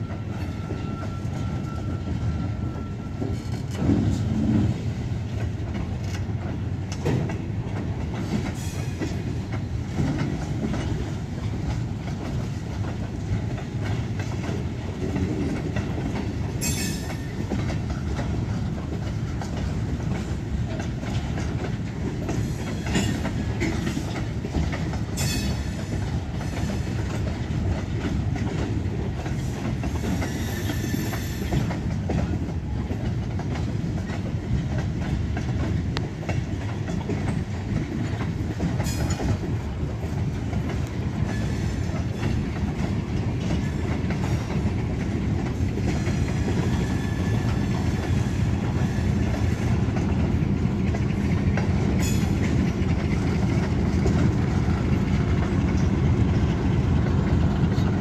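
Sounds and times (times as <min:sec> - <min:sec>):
freight cars rumbling: 0:00.0 - 0:58.0
wheels clicking over rail joints: 0:00.0 - 0:58.0.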